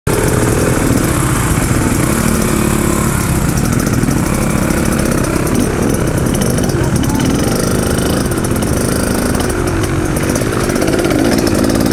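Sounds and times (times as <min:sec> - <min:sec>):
dirt bike engines idling: 0:00.1 - 0:11.9.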